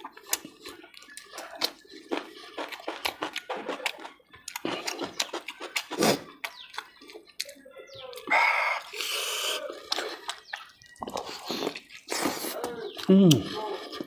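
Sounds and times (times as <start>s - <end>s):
wet chewing and mouth smacks: 0.0s - 14.0s.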